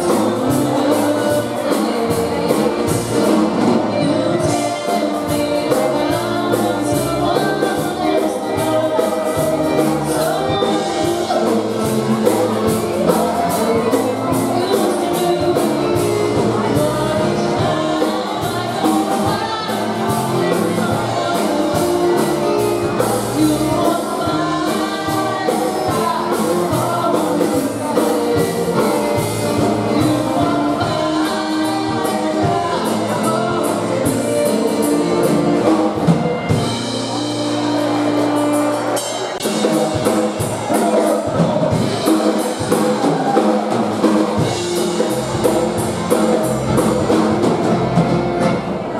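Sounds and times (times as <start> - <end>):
woman singing: 0.0 - 46.6
polka band playing: 0.0 - 48.9
steady drum beat: 0.0 - 48.9.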